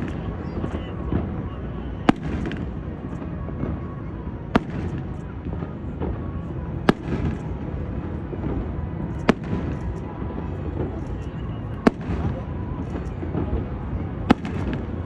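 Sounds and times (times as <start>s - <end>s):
fireworks bursting bangs: 0.0s - 15.0s.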